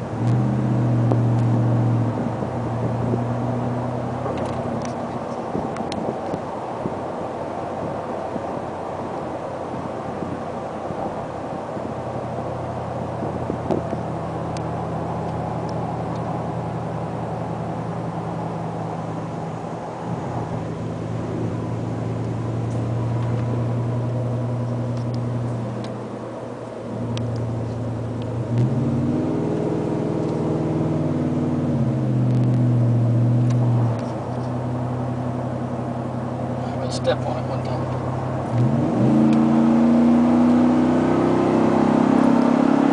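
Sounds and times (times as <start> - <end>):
truck exhaust drone: 0.0 - 42.9.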